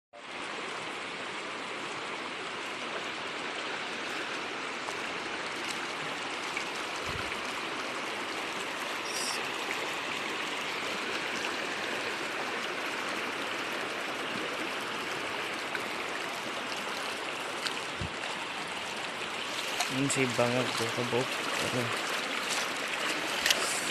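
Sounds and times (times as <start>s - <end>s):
river flowing over gravel: 0.2s - 23.9s.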